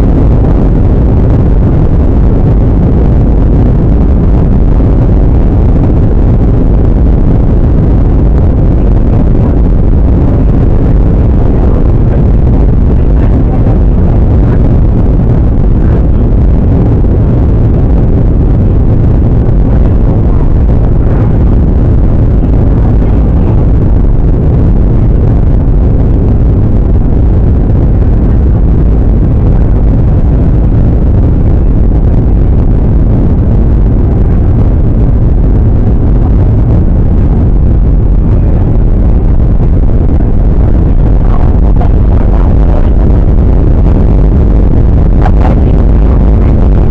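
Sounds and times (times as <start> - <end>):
airliner cabin engine noise: 0.0 - 46.9.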